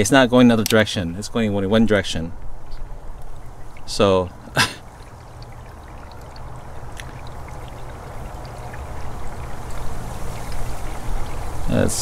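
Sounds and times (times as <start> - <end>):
water rushing in pipes: 1.0 - 12.0.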